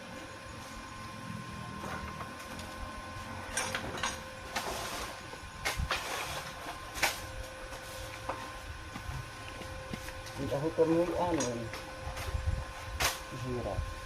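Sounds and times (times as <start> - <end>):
steady hum: 0.0 - 14.0
electric arc welding crackle: 1.6 - 14.0.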